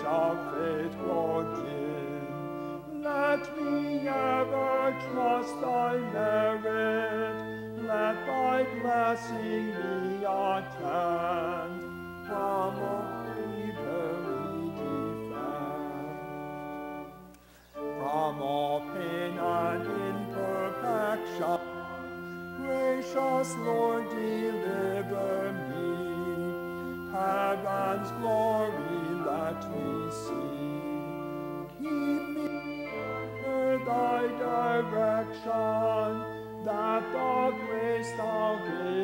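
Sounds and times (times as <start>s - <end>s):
hymn with instrumental accompaniment: 0.0s - 39.0s.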